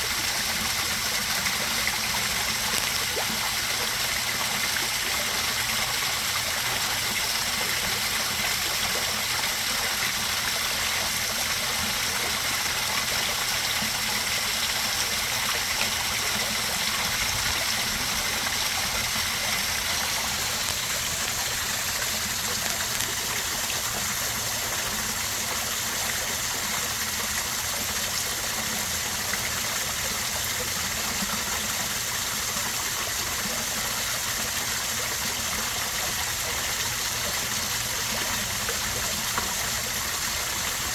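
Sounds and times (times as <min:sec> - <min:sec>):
waterfall pouring into pond: 0:00.0 - 0:40.9.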